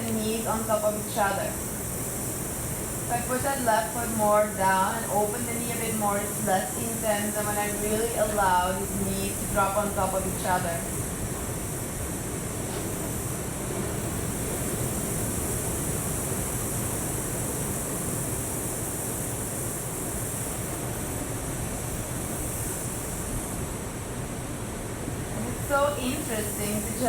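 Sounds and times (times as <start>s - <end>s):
high hiss: 0.0s - 27.0s
ocean surf washing in: 0.0s - 27.0s.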